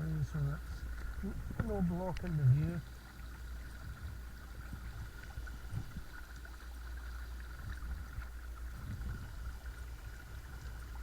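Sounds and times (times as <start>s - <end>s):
water gurgling along hull: 0.0s - 11.0s.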